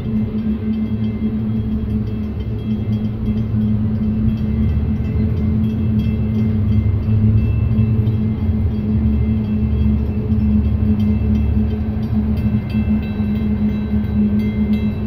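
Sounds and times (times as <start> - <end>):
boat engines rumbling: 0.0 - 15.0.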